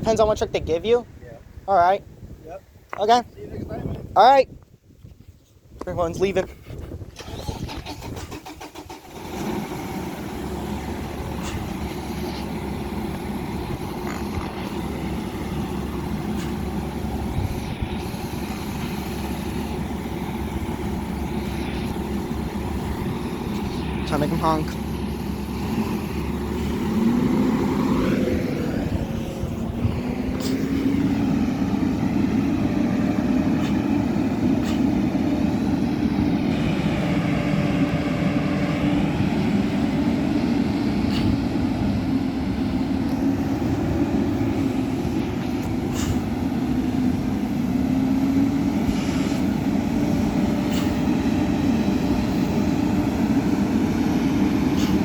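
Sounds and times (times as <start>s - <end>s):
garbage truck engine running: 7.2s - 55.0s.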